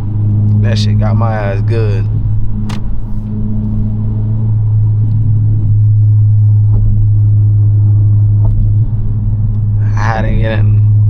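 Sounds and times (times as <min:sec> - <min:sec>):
car engine and road hum: 0:00.0 - 0:11.0.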